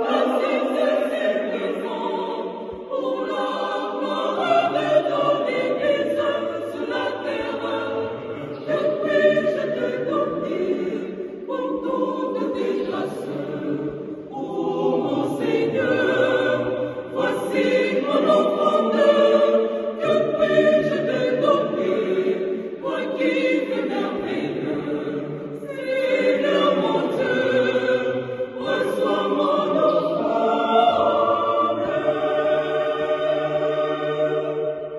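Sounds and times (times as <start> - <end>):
choir singing a hymn: 0.0 - 34.9.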